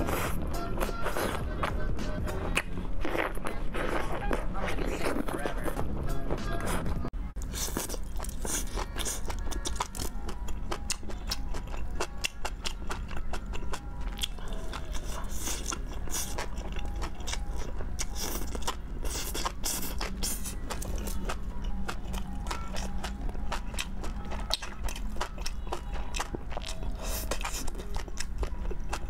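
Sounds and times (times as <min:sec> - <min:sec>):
crunchy biting and chewing: 0:00.0 - 0:05.9, 0:07.4 - 0:29.0.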